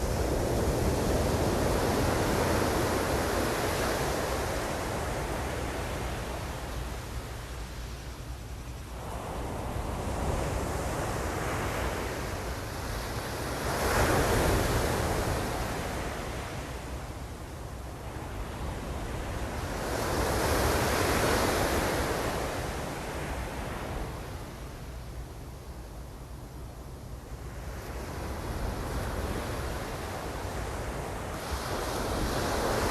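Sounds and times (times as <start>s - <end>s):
ocean surf washing: 0.0s - 24.8s, 27.3s - 32.9s.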